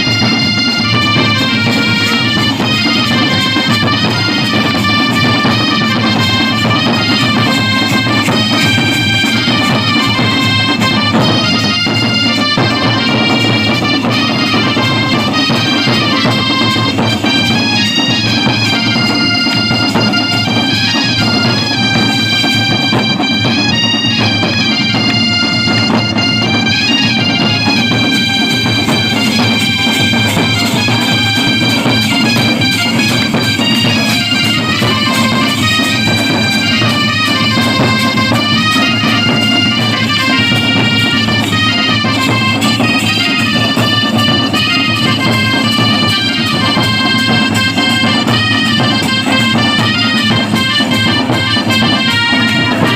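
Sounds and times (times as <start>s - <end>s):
reedy wind instrument melody: 0.0s - 52.9s.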